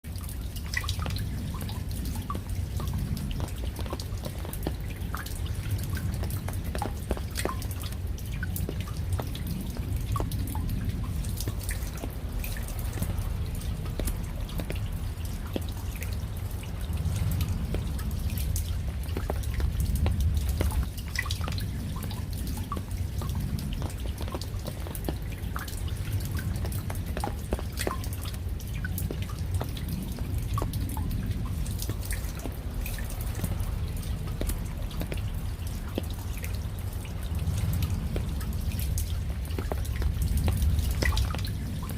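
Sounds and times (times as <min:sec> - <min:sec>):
low rumble of rain: 0:00.0 - 0:41.9
raindrops dripping and tapping: 0:00.0 - 0:41.9.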